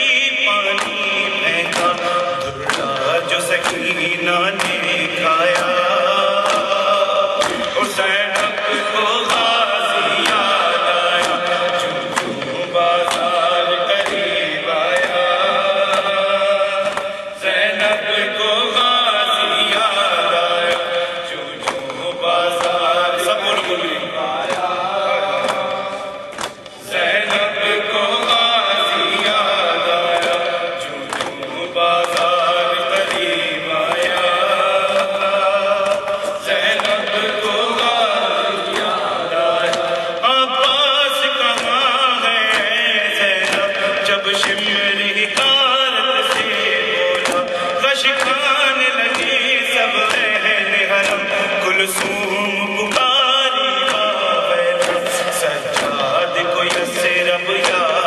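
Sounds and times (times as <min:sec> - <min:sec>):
man chanting a lament: 0:00.0 - 0:58.0
sharp percussive hits: 0:00.0 - 0:58.0.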